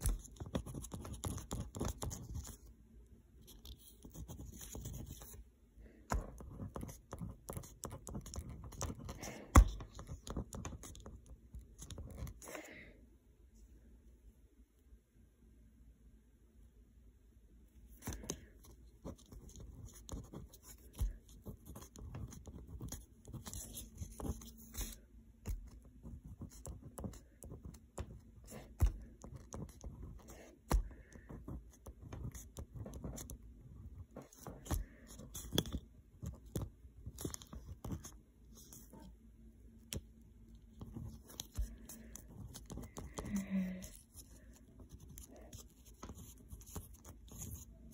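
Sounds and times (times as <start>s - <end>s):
marker pen scratching on paper: 0.0s - 2.7s, 3.4s - 5.4s, 6.1s - 12.6s, 17.9s - 39.2s, 39.8s - 47.9s.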